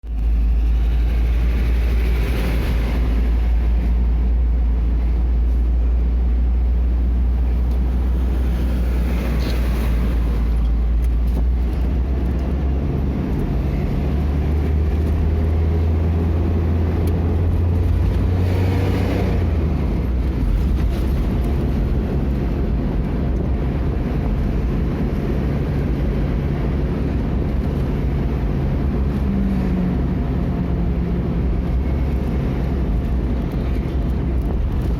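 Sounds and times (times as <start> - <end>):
vehicle engine and road rumble: 0.0 - 34.9.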